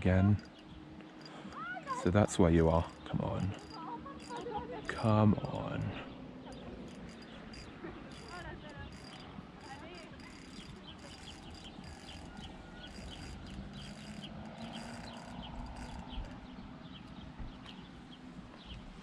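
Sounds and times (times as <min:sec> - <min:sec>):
insects chirping: 0:00.0 - 0:17.8.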